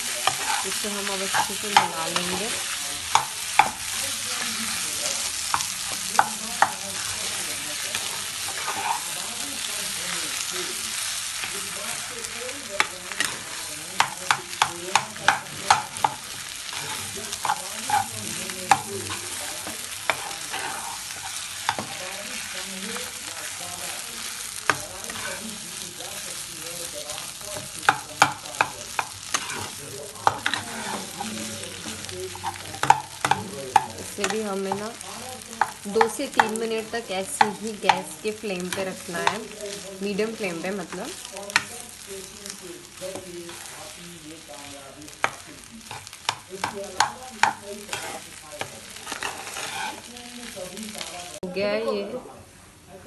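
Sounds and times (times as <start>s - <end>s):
spoon scraping frying pan: 0.0s - 42.0s, 42.9s - 51.3s
frying sizzle: 0.0s - 53.0s.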